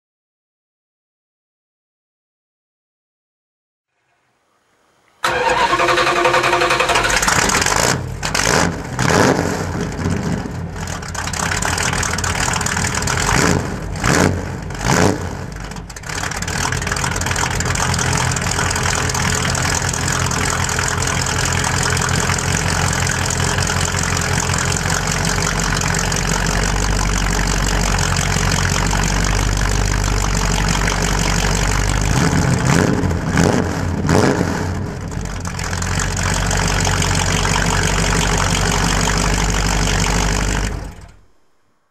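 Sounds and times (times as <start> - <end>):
car engine idling and revving: 4.6 - 41.5.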